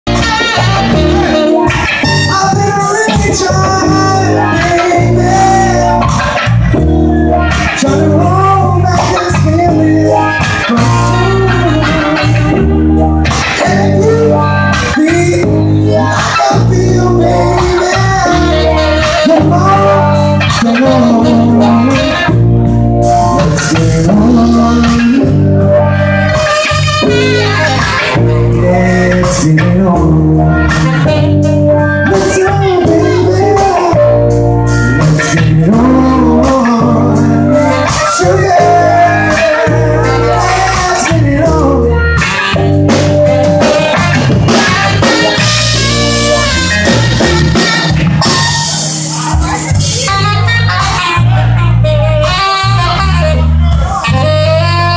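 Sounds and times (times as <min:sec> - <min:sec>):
bass guitar: 0:00.0 - 0:54.9
guitar: 0:00.0 - 0:54.9
instrumental band music: 0:00.0 - 0:54.9.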